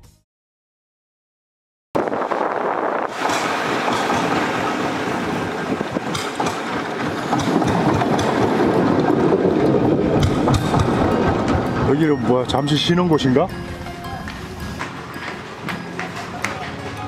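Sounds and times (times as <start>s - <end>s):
boat engine rumbling: 2.0s - 17.0s.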